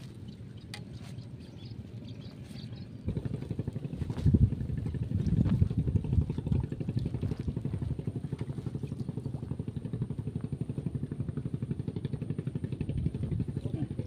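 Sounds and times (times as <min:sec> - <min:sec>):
small engine running: 0:01.0 - 0:14.0.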